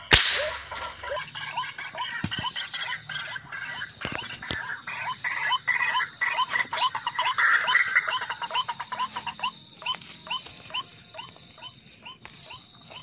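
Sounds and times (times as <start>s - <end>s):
high buzz of night insects: 0.0s - 13.0s
waterhen calling: 0.0s - 13.0s.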